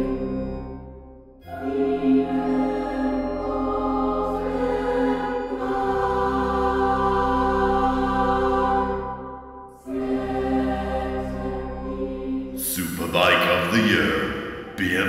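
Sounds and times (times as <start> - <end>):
music of sustained chords: 0.0 - 14.8.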